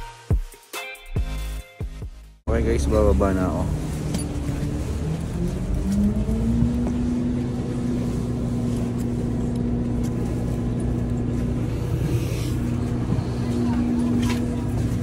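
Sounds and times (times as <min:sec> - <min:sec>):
vehicle engine running: 0:02.5 - 0:15.0.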